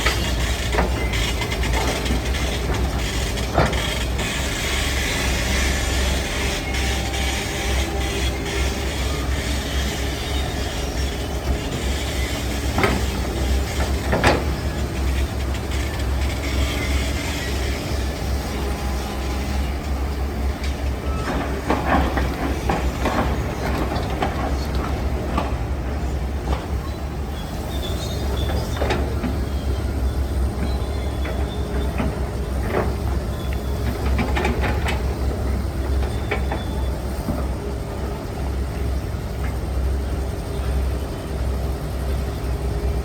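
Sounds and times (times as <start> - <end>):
diesel machinery rumbling: 0.0 - 43.0.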